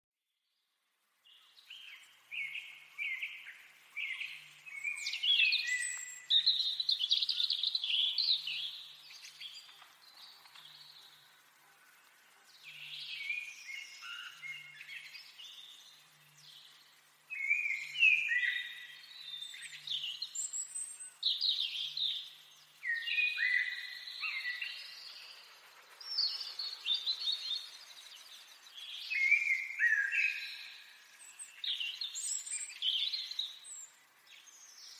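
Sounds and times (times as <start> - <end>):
songbirds chirping and trilling: 0.5 - 34.9.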